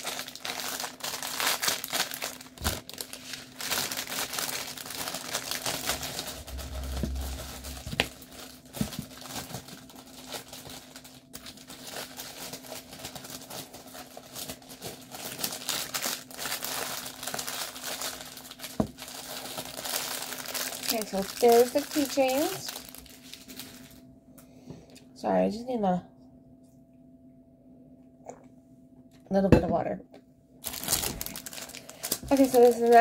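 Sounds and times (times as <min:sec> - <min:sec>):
plastic packaging crinkling: 0:00.0 - 0:24.1, 0:30.6 - 0:33.0.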